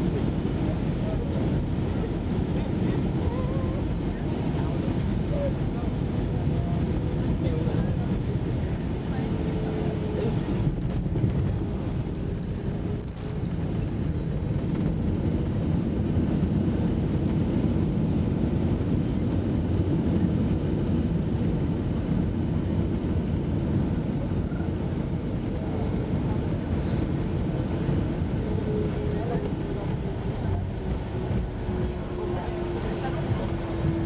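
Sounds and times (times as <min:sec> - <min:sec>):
airliner engines rumbling in cabin: 0:00.0 - 0:34.0.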